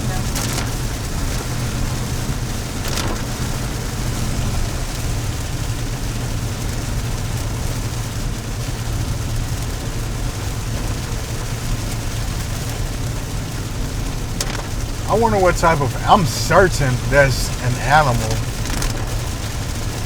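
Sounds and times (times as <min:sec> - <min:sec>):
rain: 0:00.0 - 0:17.3, 0:18.4 - 0:20.0.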